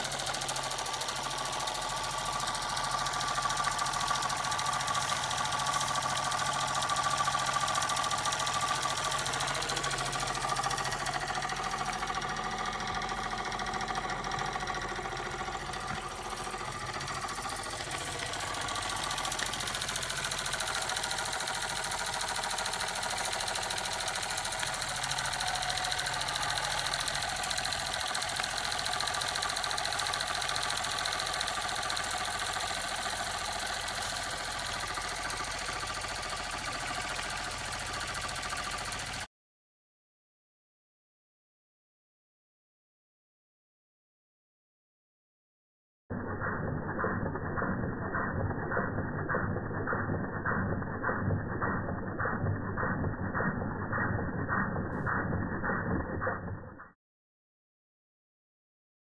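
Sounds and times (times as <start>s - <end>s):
toy steam engine running: 0.0s - 39.3s, 46.1s - 56.8s.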